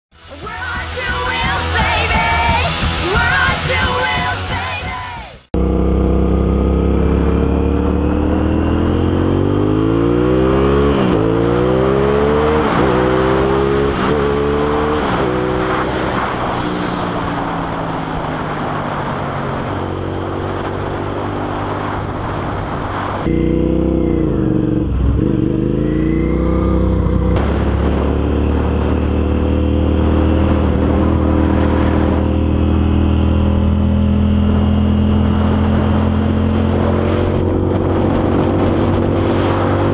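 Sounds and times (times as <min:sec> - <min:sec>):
motorcycle engine accelerating: 0:05.6 - 0:39.9
wind rushing over microphone: 0:06.5 - 0:39.9.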